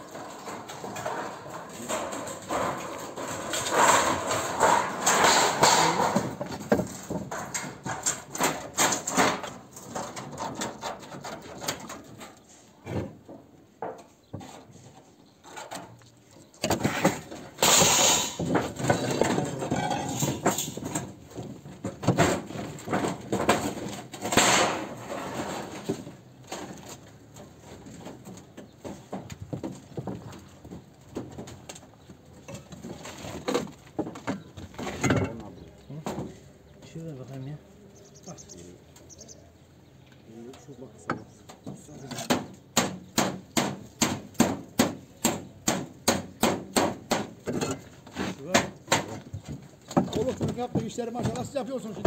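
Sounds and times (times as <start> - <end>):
knocking and clattering: 0.0 - 14.7, 16.6 - 36.4, 41.0 - 52.0.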